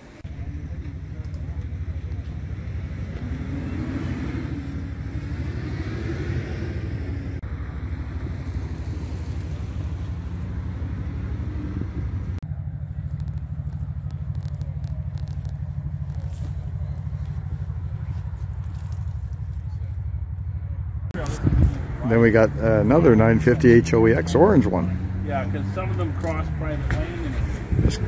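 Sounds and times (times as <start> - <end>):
off-road vehicle engine idling: 0.0 - 5.7, 6.8 - 28.0
second engine revving: 0.2 - 20.0, 21.0 - 28.0.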